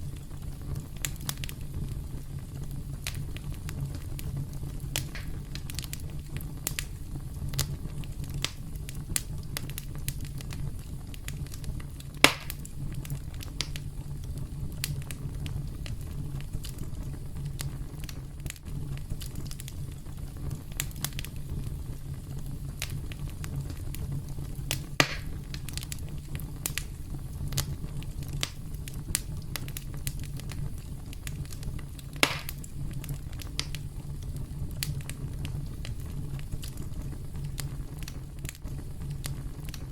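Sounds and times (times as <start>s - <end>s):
campfire crackling: 0.0s - 39.9s
loud fire snaps: 0.0s - 39.9s.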